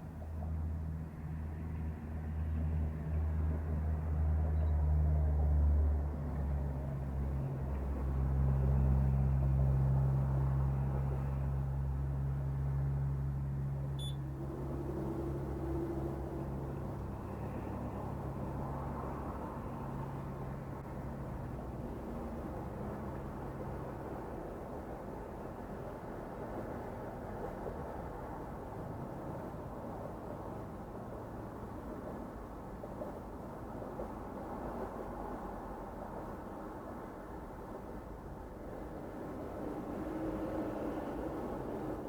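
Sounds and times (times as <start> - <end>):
vehicles passing by: 0.0 - 42.0.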